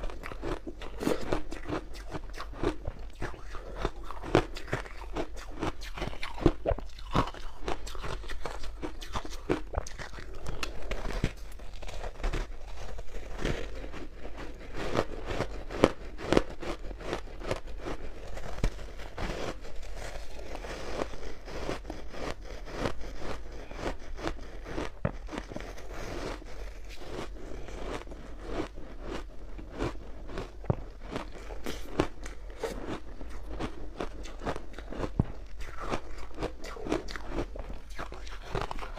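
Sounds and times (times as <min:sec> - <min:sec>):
chewing ice cubes: 0:00.0 - 0:38.9.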